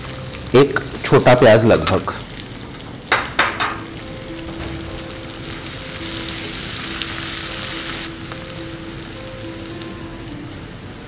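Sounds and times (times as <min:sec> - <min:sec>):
onion sizzling in hot fat: 0:00.0 - 0:11.0.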